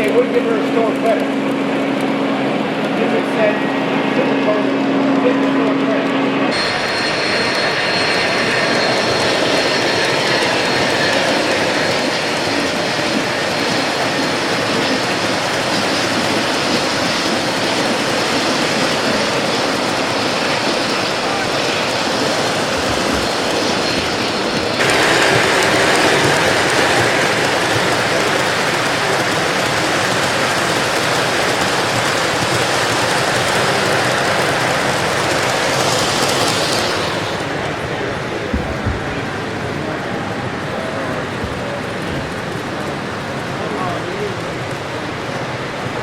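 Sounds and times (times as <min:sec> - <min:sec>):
model train wheels on track: 0:00.0 - 0:46.0.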